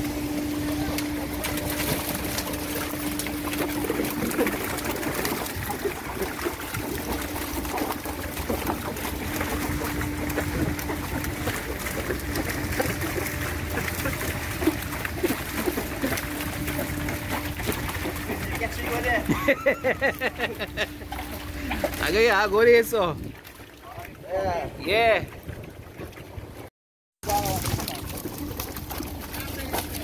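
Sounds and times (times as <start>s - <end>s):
fish flapping and splashing: 0.0s - 22.3s, 23.3s - 24.2s, 27.2s - 30.0s
water dripping and running: 0.0s - 25.2s
low steady hum: 0.0s - 26.5s.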